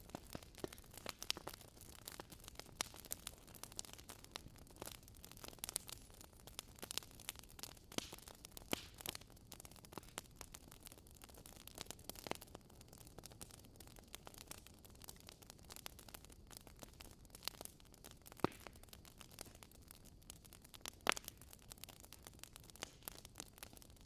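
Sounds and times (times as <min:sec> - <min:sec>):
fire popping and snapping: 0:00.0 - 0:24.0
wood fire crackling: 0:00.0 - 0:24.0.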